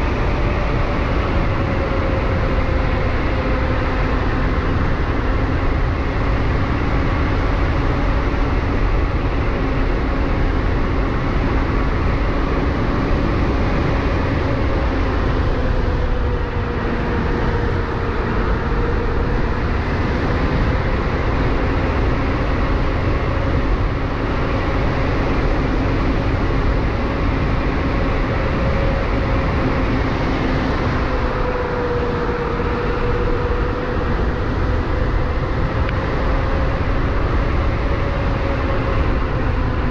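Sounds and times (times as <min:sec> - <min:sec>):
electric hub motor whining: 0:00.0 - 0:39.9
wind and road noise rumble: 0:00.0 - 0:39.9.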